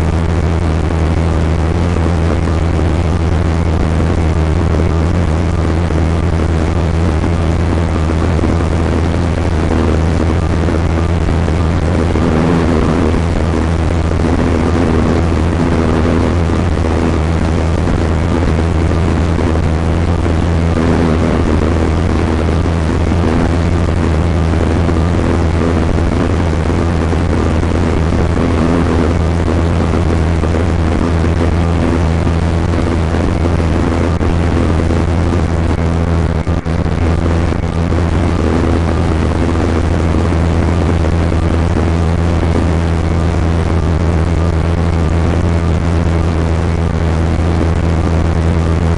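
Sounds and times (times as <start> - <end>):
low engine drone: 0.0 - 48.9.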